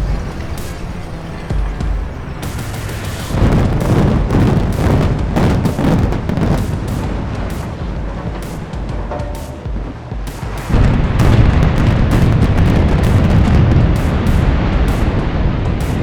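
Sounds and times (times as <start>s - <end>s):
building collapse rumble: 0.0s - 16.0s
debris crashing: 1.6s - 16.0s.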